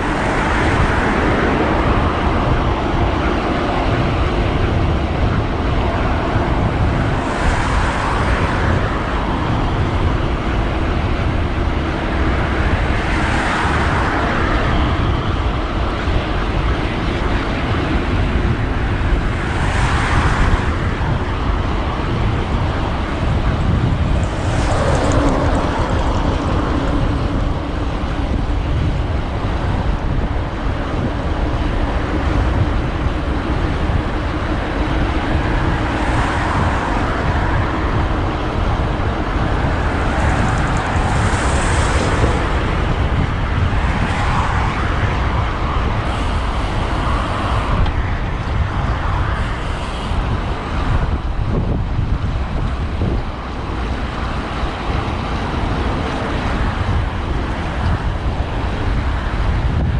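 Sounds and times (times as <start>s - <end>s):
road traffic noise: 0.0s - 59.9s
vehicles passing: 0.0s - 59.9s
wind on microphone: 0.0s - 59.9s.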